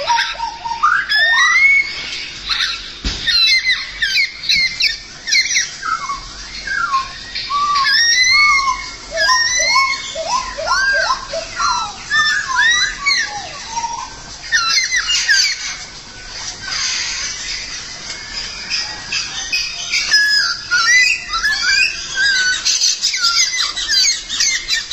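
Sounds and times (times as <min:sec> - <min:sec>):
songbird singing: 0:00.0 - 0:24.9.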